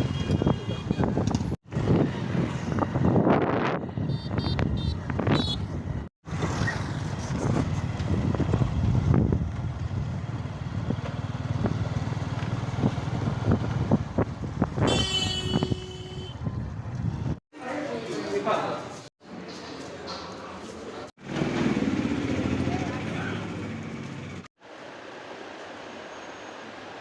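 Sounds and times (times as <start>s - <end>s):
vehicle road rumble: 0.0s - 17.4s, 21.2s - 26.1s.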